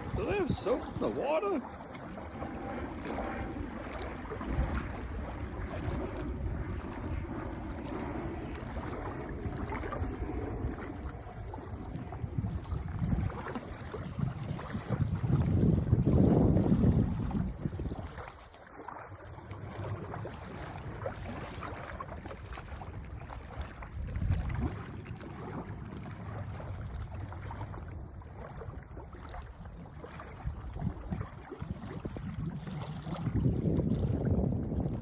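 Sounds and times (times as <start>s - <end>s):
lake waves lapping at shore: 0.0s - 35.0s.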